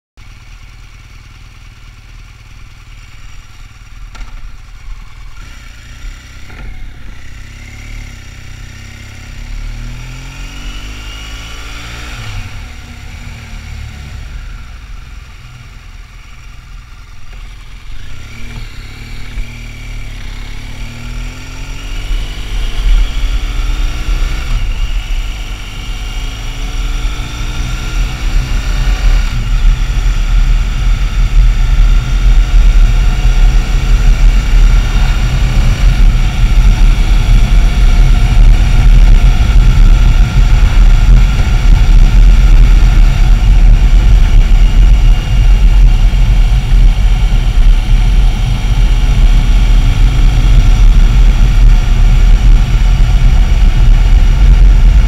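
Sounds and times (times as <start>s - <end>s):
motorcycle engine revving: 0.2s - 55.0s.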